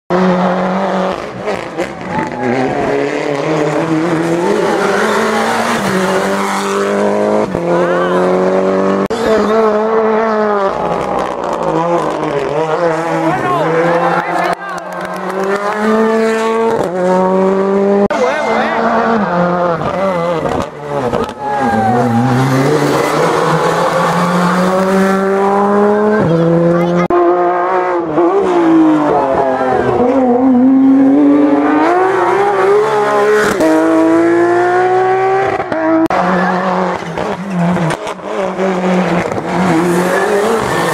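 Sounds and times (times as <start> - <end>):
rally car engine at high revs: 0.1 - 40.9.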